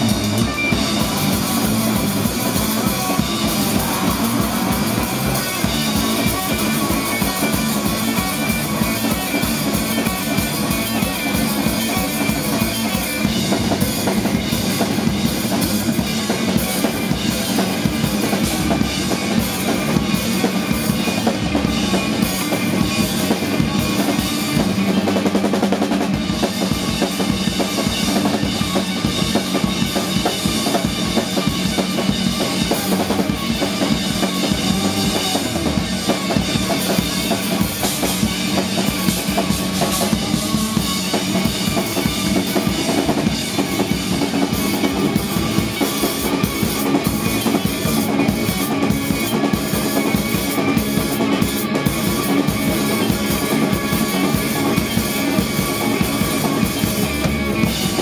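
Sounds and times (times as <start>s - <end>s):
busy rock drumming: 0.0s - 58.0s
electric guitar chords: 0.0s - 58.0s.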